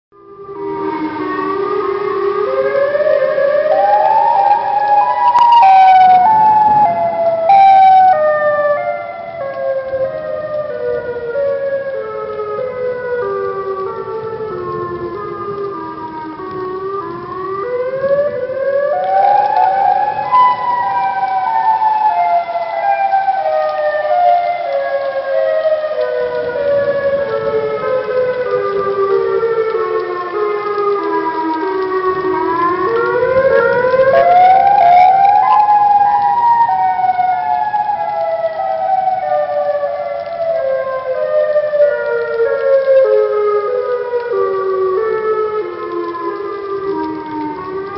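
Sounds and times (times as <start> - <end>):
siren-like horn blast: 0.2 - 47.9.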